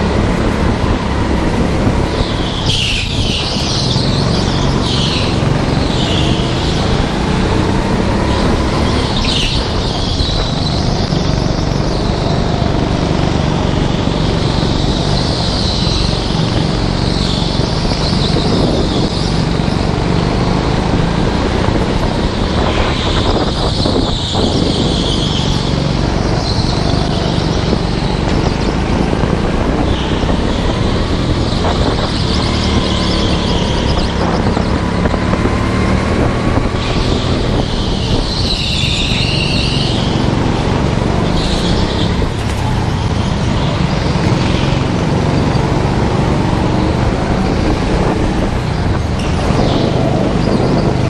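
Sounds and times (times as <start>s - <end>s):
go-kart engine running hard: 0.0s - 51.0s
wind on microphone: 0.0s - 51.0s
tyre squeal: 2.0s - 20.5s, 22.0s - 29.1s, 29.7s - 35.1s, 36.0s - 51.0s.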